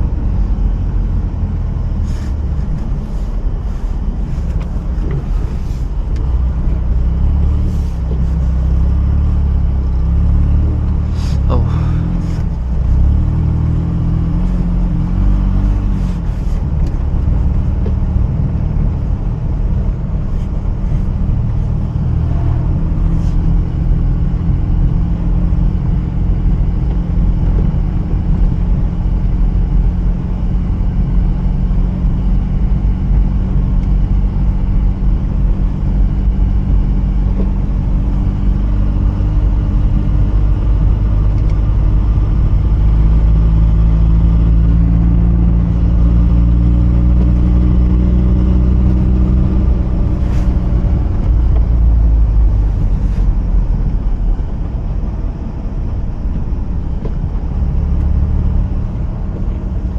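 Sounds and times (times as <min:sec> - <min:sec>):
rotary engine droning: 0:00.0 - 0:59.9
tyre and road noise: 0:00.0 - 0:59.9.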